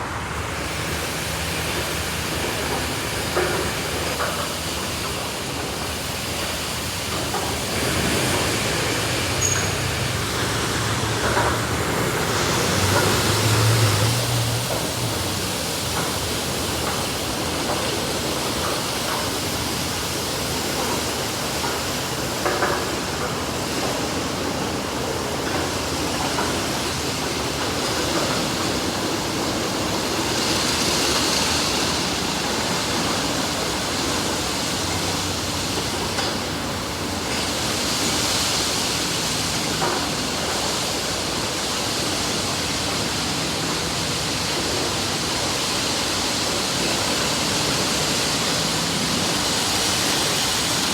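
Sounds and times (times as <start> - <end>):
water jets spraying on a car: 0.0 - 50.9.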